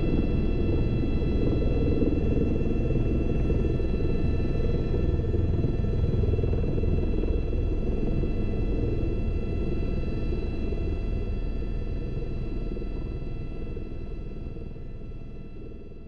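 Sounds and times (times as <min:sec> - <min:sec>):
helicopter rotor rumble: 0:00.0 - 0:16.0
helicopter turbine whine: 0:00.0 - 0:16.0.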